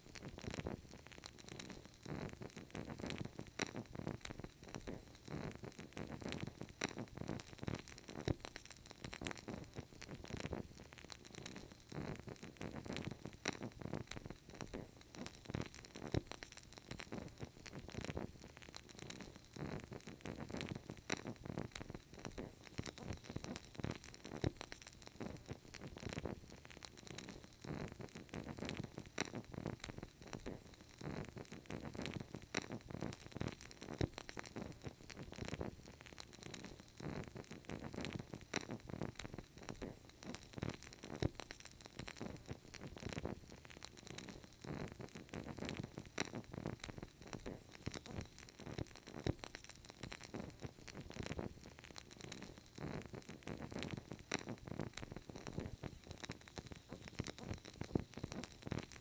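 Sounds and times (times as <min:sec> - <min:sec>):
candle flame crackling: 0:00.0 - 0:59.0.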